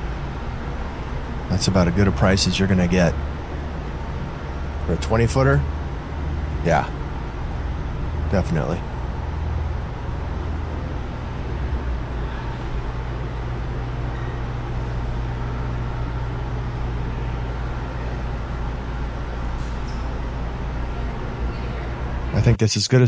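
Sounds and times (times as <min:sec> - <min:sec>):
exhibition hall hum: 0:00.0 - 0:22.6.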